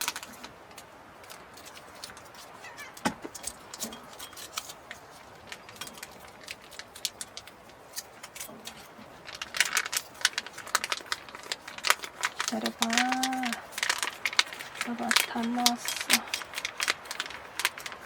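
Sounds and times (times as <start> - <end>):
small hard objects clinking: 1.3 - 18.0.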